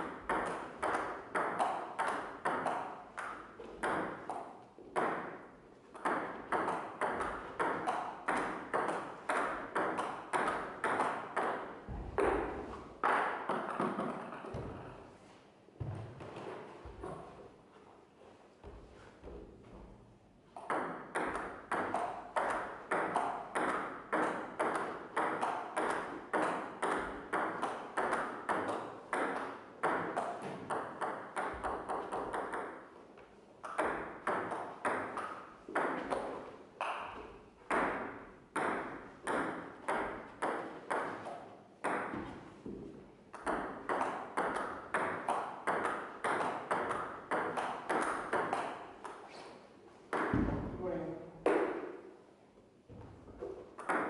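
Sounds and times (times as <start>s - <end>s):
table tennis ball strikes: 0.1s - 5.4s, 6.0s - 14.9s, 20.6s - 32.8s, 33.7s - 42.8s, 43.4s - 49.2s, 50.1s - 50.8s, 51.4s - 52.1s, 52.9s - 54.0s.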